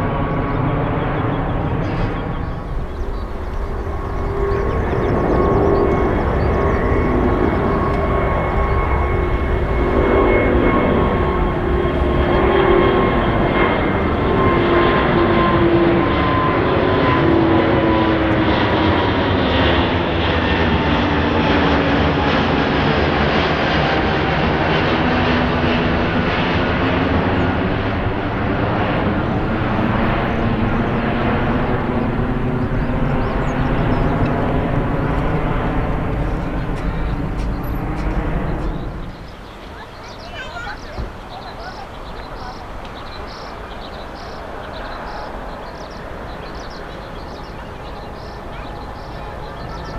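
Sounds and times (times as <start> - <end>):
jet engines passing close: 0.0 - 49.9.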